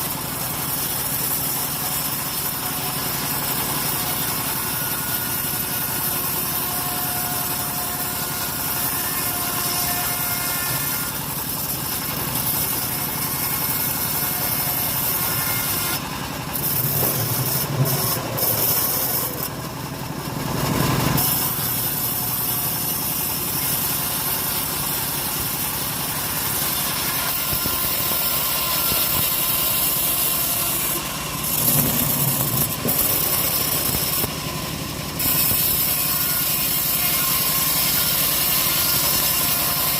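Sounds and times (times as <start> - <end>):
saw blade cutting log: 0.0 - 39.9
sawmill engine running: 0.0 - 39.9.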